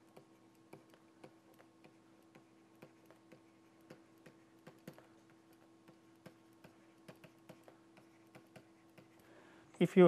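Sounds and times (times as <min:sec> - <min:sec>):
stylus tapping on tablet: 0:00.0 - 0:09.3
low electrical hum: 0:00.0 - 0:10.0.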